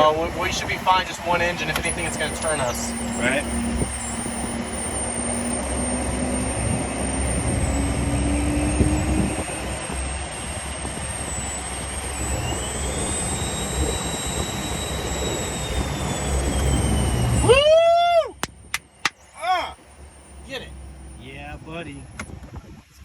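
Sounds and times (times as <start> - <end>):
whine climbing in pitch: 0.0 - 22.4
jet engine roar with whine: 0.0 - 23.0.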